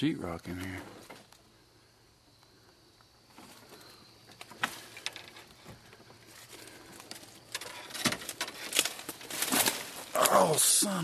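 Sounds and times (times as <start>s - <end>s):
faint rustling: 0.5s - 10.6s.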